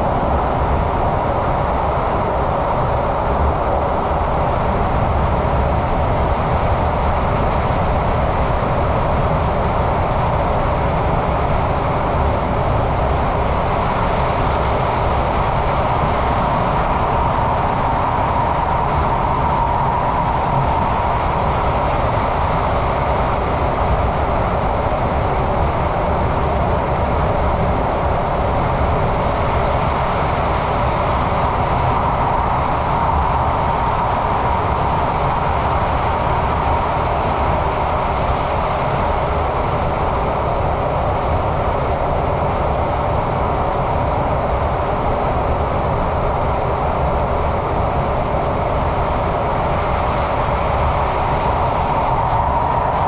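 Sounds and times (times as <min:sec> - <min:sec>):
train wheels and motors rumbling: 0:00.0 - 0:53.0.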